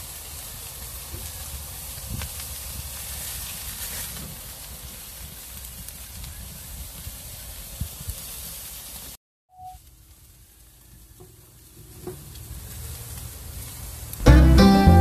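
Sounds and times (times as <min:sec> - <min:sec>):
meat sizzling over charcoal: 0:00.0 - 0:15.0.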